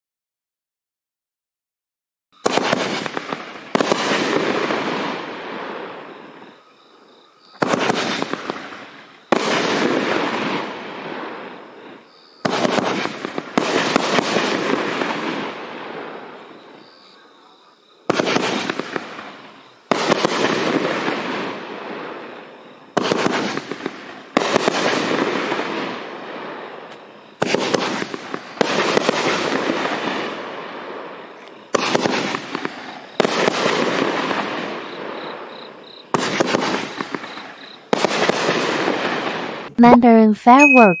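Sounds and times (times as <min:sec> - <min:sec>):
firework bangs: 0:02.4 - 0:06.6, 0:07.5 - 0:17.0, 0:18.0 - 0:40.6.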